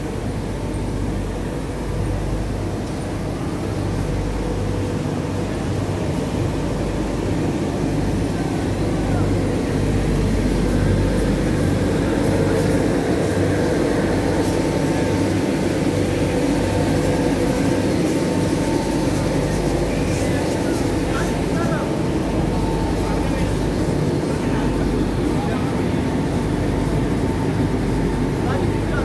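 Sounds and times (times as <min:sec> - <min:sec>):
printing machine drone: 0:00.0 - 0:29.0.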